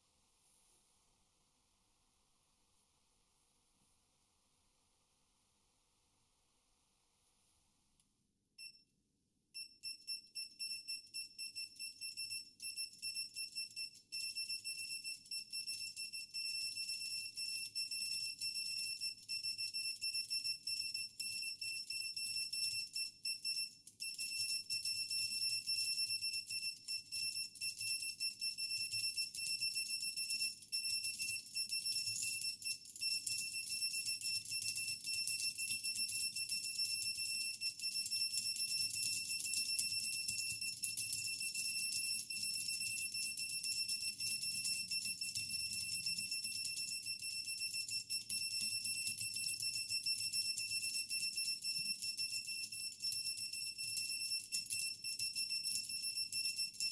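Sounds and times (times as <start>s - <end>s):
shrill electronic beeps: 9.6s - 56.9s.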